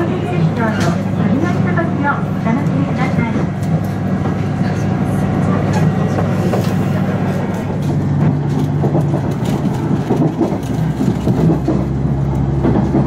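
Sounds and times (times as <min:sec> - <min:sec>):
diesel engine hum: 0:00.0 - 0:13.0
wheel and rail noise: 0:00.0 - 0:13.0.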